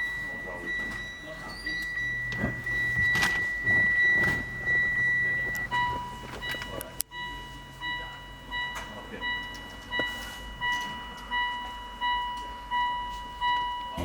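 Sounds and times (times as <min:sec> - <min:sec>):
car warning chime beeping: 0:00.0 - 0:14.0.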